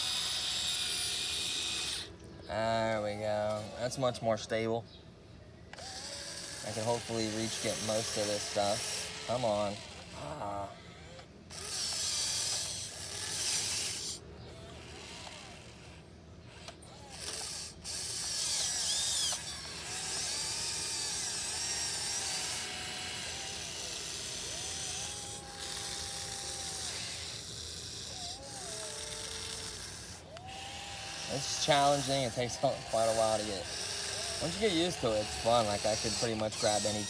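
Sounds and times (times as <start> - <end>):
small electric motors whirring: 0.0 - 5.0, 5.7 - 37.0.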